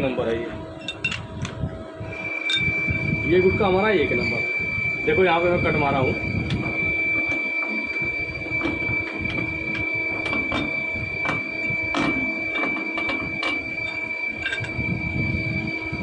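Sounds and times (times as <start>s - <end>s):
machine-shop hum with whine: 0.0s - 16.0s.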